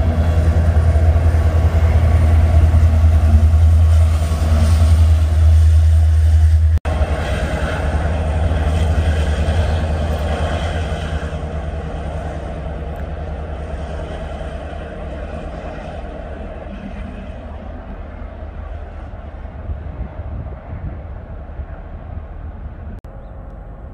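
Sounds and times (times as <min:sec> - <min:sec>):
freight cars rumbling: 0:00.0 - 0:23.9
freight train running: 0:00.0 - 0:23.9.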